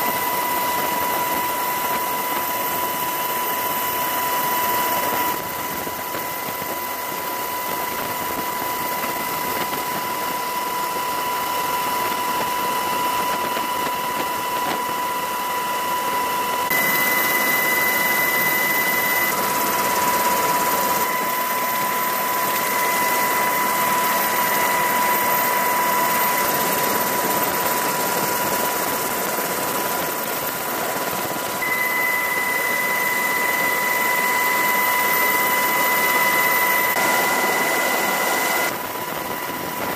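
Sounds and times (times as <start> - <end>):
helicopter rotor noise: 0.0 - 39.9
high turbine whine: 0.0 - 39.9.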